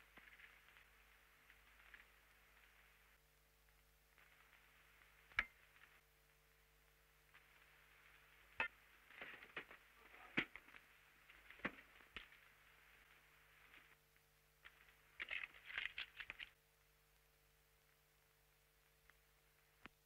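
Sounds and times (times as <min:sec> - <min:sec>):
film soundtrack hiss and hum: 0:00.0 - 0:20.0.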